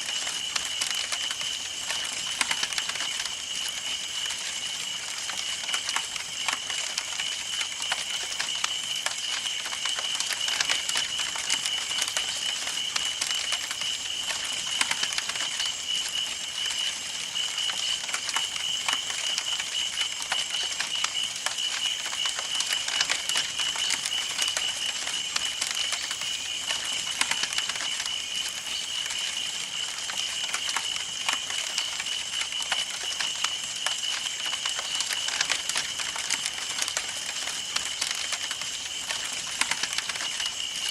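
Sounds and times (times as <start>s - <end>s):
wood crackling and popping: 0.0s - 40.9s.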